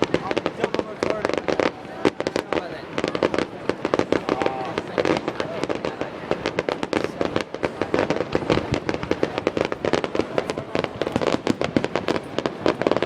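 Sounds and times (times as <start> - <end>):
fireworks cracking and popping: 0.0 - 13.0.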